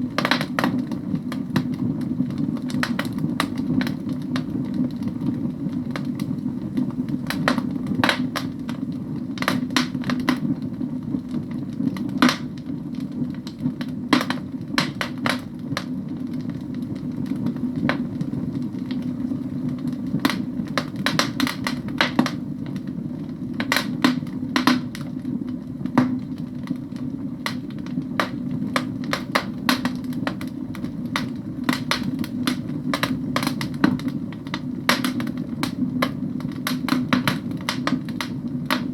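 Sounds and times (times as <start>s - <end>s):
fire low rumble: 0.0s - 38.9s
firewood crackling and popping: 0.0s - 38.9s.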